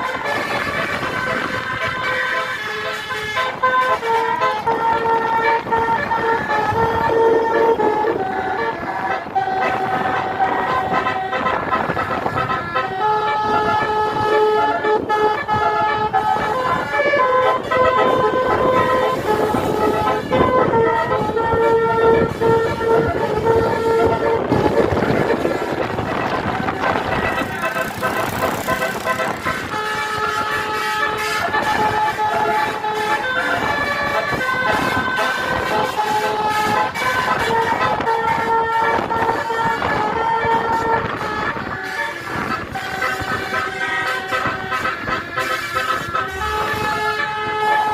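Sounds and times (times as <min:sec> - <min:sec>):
bus horn playing a melody: 0:00.0 - 0:47.9.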